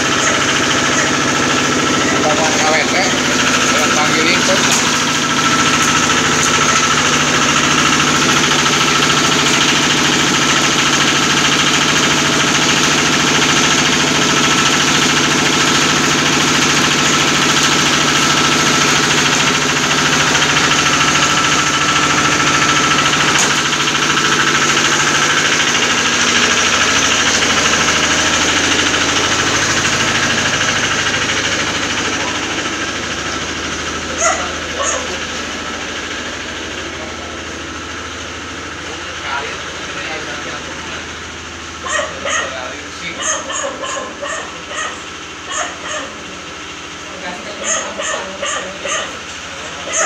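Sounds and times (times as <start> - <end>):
small engine running steadily: 0.0 - 50.0.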